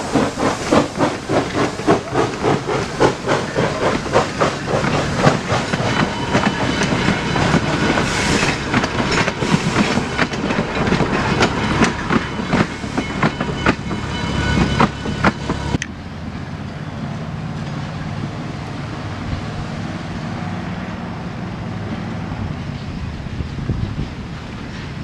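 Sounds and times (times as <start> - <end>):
train wheels clicking over rail joints: 0.0 - 18.2, 22.4 - 25.0
distant train rumble: 0.0 - 25.0.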